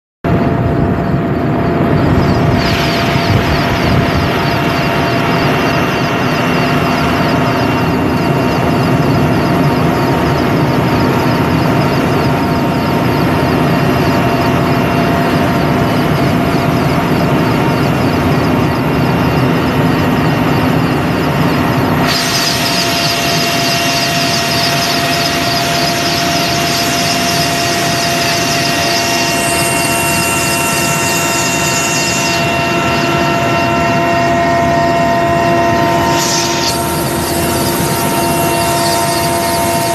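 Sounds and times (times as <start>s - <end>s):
helicopter rotor and turbine: 0.2s - 39.9s.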